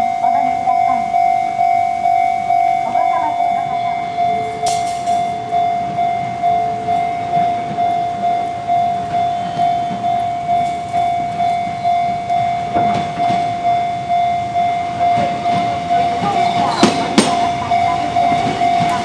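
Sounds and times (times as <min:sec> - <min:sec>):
level-crossing warning bell ringing: 0:00.0 - 0:19.0.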